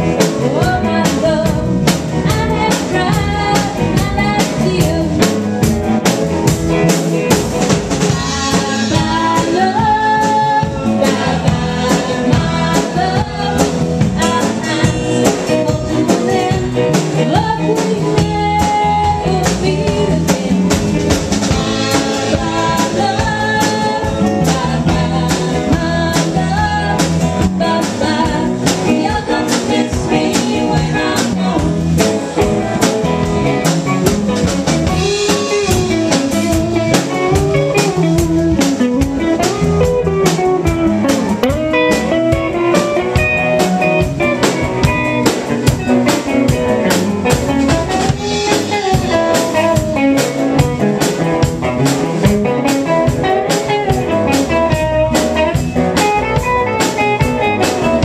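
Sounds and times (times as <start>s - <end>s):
bass guitar: 0.0s - 58.0s
drum kit beat: 0.0s - 58.0s
electric guitar lead: 0.0s - 58.0s.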